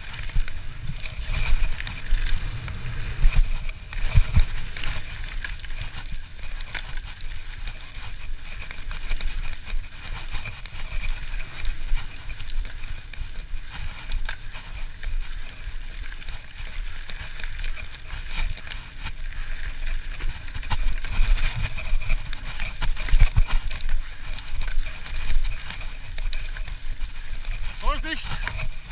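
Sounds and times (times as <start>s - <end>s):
bike clicks and rattles: 0.0s - 28.9s
bike tyres on dirt: 0.0s - 28.9s.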